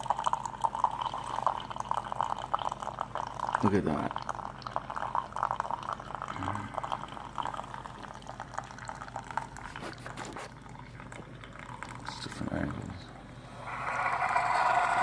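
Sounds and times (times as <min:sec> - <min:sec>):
coffee stream splashing into a mug: 0:00.0 - 0:13.0, 0:13.7 - 0:15.0.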